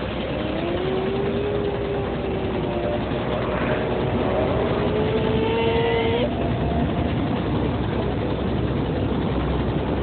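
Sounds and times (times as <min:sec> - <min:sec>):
train rumble: 0:00.0 - 0:10.0
train whine rising in pitch: 0:00.0 - 0:10.0.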